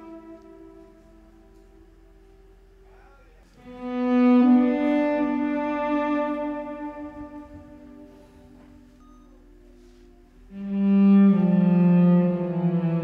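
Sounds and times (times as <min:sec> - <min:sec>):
slow music of long held notes: 0:00.0 - 0:13.0.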